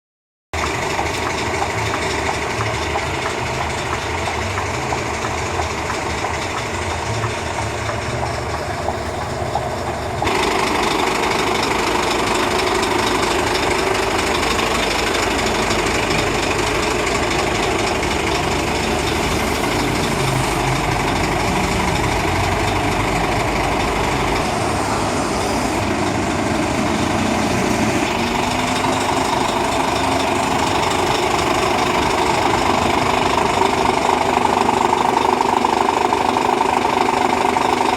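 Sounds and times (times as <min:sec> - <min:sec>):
truck diesel engine running: 0:00.6 - 0:37.9.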